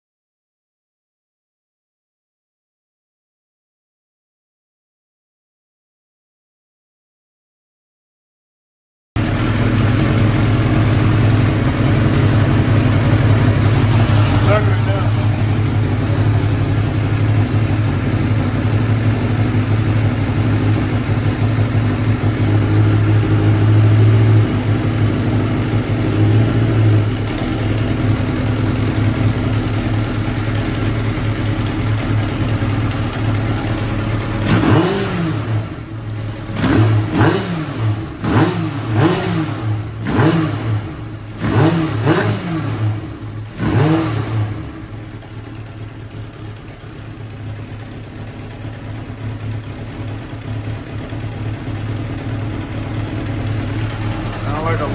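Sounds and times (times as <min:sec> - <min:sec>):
motorcycle engine idling: 0:09.2 - 0:54.9.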